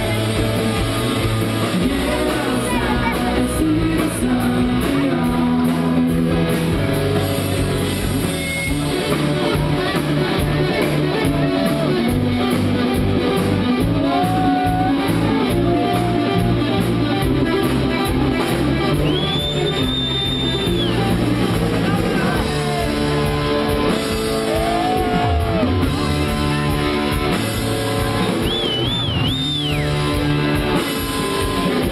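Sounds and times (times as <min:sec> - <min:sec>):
rock band playing live: 0:00.0 - 0:31.9.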